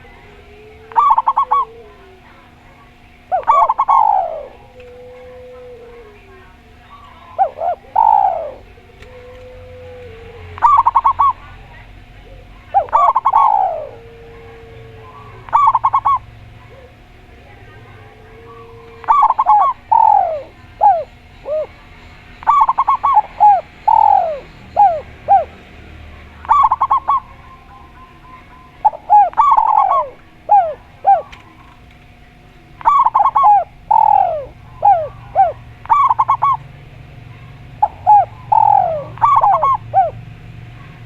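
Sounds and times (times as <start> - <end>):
dove drawn-out coos: 0.0 - 41.0
dove staccato cooing: 0.0 - 41.0.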